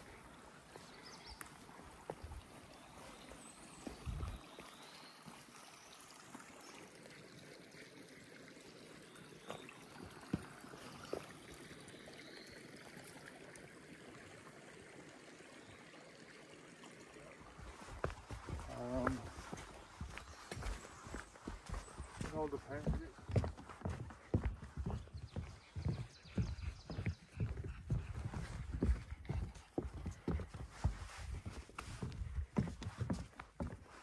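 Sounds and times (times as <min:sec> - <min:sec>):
running water: 0:00.0 - 0:34.0.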